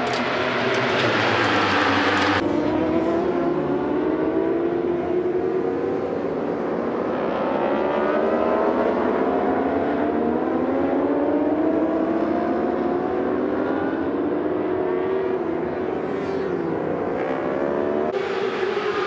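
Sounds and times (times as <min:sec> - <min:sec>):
racing motorcycles accelerating: 0:00.0 - 0:19.0.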